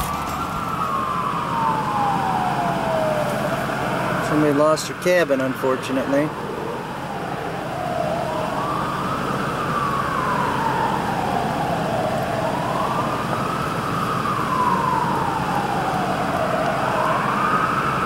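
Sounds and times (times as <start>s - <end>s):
emergency siren wailing: 0.0s - 18.0s.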